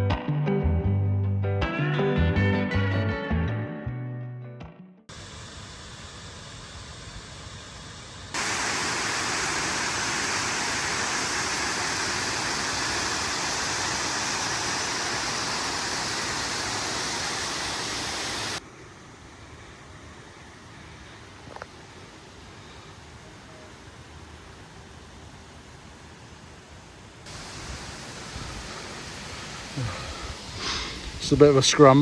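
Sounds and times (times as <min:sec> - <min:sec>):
waterfall roaring: 0:05.1 - 0:32.0.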